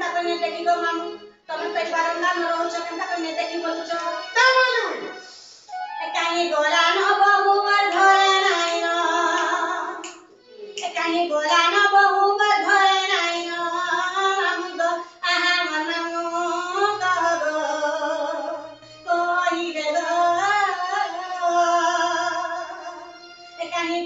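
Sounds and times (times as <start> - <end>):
woman singing unaccompanied: 0.0 - 5.0, 6.0 - 23.0, 23.6 - 24.0.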